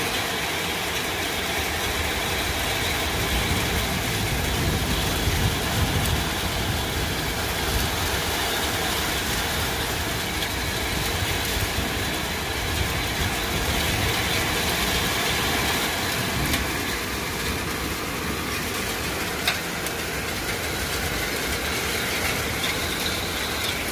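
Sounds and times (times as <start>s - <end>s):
hail and heavy rain: 0.0s - 23.9s
hailstones ticking: 0.0s - 23.9s.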